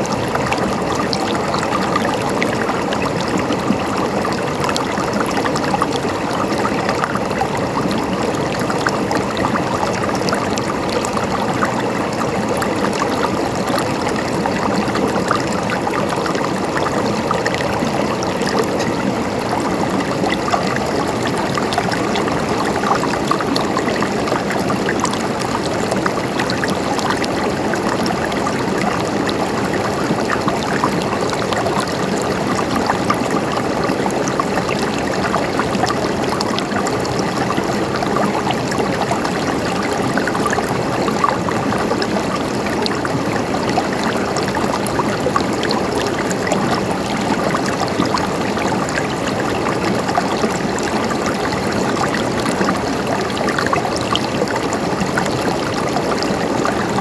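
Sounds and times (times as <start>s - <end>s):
water gurgling: 0.0s - 57.0s.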